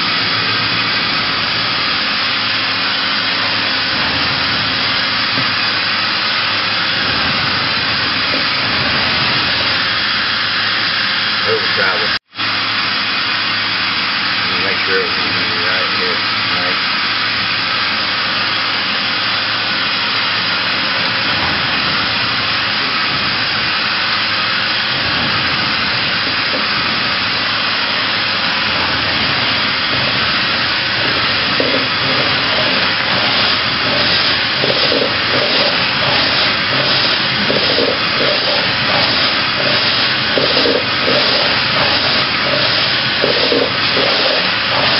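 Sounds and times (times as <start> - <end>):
rapid pulsing: 0.0 - 12.2, 19.6 - 44.9
machine running with loud hiss: 0.0 - 44.9.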